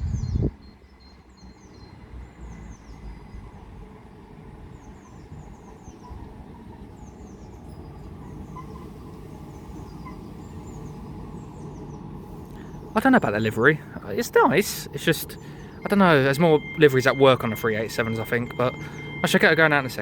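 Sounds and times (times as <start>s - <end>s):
electric train rumbling: 0.0s - 20.0s
small birds chirping: 0.0s - 20.0s.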